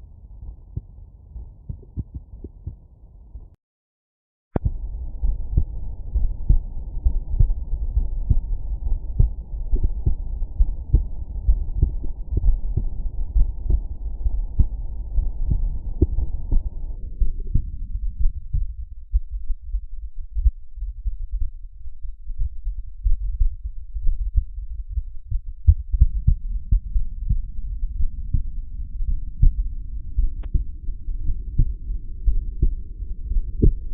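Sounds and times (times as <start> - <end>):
heartbeat through stethoscope: 0.3 - 3.5, 4.6 - 33.9.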